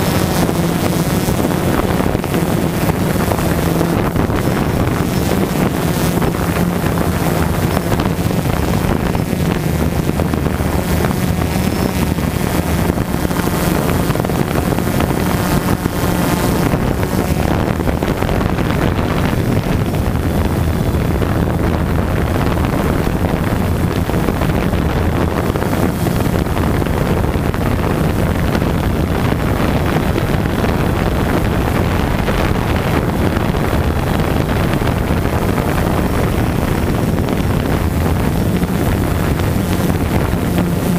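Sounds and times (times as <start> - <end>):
drone propellers buzzing: 0.0 - 40.9
wind on microphone: 0.0 - 40.9.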